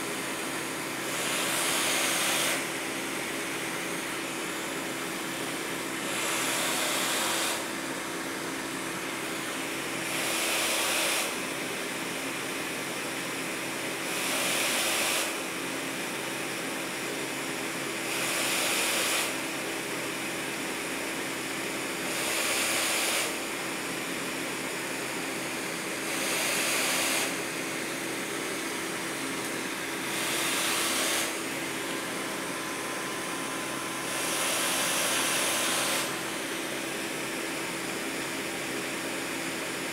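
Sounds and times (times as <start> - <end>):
ventilator blower humming: 0.0 - 39.9.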